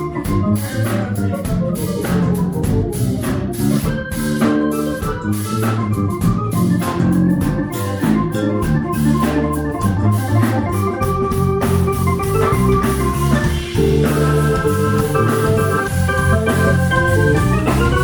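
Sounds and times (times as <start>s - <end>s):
bass: 0.0s - 18.0s
organ chords: 0.0s - 18.0s
steady drum beat: 0.0s - 18.0s.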